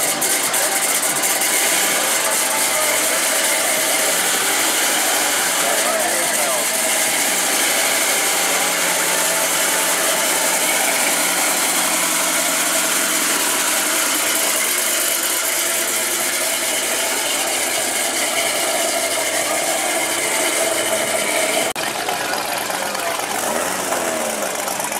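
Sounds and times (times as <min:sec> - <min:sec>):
rattly car engine exhaust: 0:00.0 - 0:24.9.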